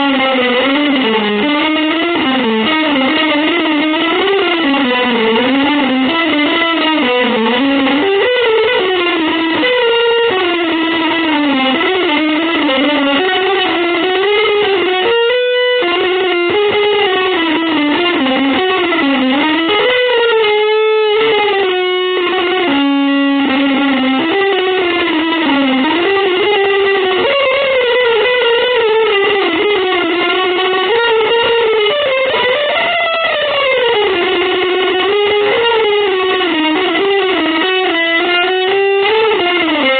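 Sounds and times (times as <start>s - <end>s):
electric guitar sliding melody: 0.0s - 39.9s.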